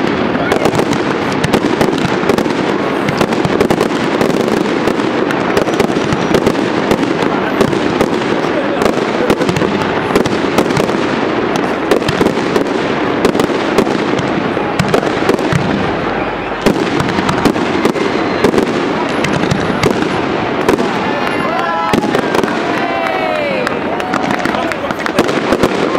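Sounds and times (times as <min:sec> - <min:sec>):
fireworks bursting: 0:00.0 - 0:25.9.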